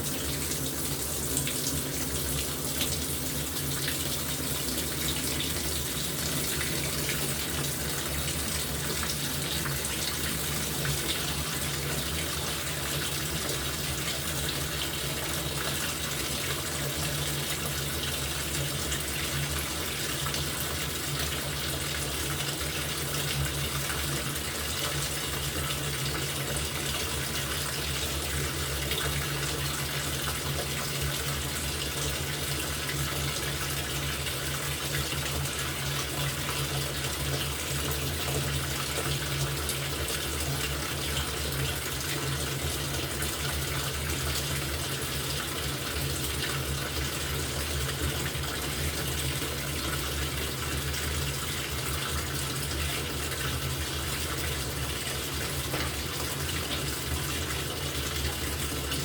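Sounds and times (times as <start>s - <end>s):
water pouring into washing machine: 0.0s - 59.0s.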